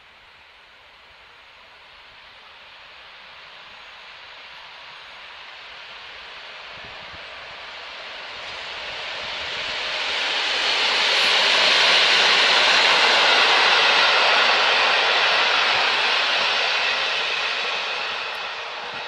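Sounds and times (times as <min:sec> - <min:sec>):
train wheels rushing on rails: 0:00.9 - 0:19.0.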